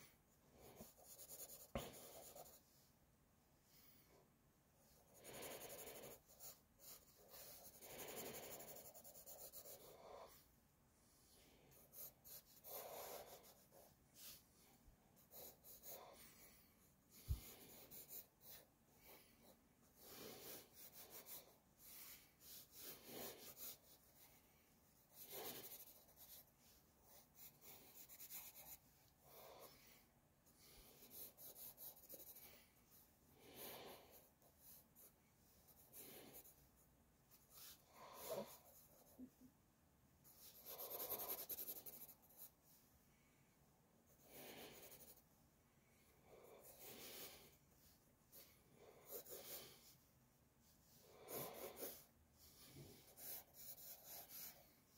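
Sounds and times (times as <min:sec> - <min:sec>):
pencil scratching on paper: 0:00.0 - 0:02.7, 0:04.9 - 0:10.5, 0:11.7 - 0:14.5, 0:15.1 - 0:18.7, 0:19.3 - 0:32.7, 0:33.5 - 0:39.4, 0:40.2 - 0:42.6, 0:44.1 - 0:45.3, 0:46.5 - 0:47.5, 0:48.3 - 0:50.0, 0:50.9 - 0:54.9.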